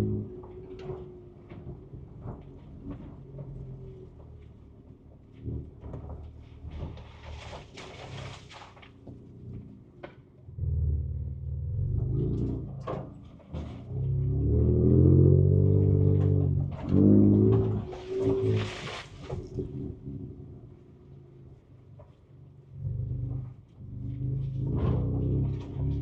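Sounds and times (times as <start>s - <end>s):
truck engine from inside cabin: 0.0s - 7.5s, 8.8s - 26.0s.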